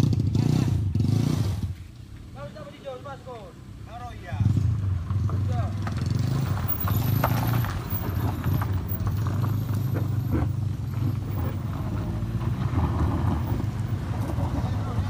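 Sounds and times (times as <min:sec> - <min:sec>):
car engines droning: 0:00.0 - 0:15.0
gravel cracking under tyres: 0:01.2 - 0:15.0.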